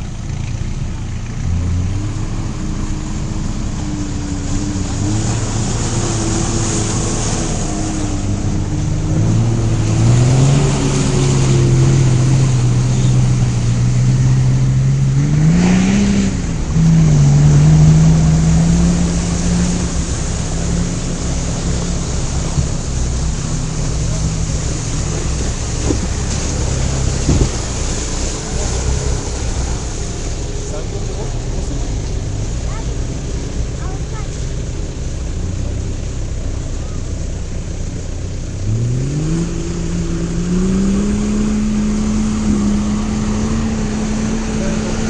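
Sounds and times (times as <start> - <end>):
off-road vehicle engine: 0.0 - 45.0.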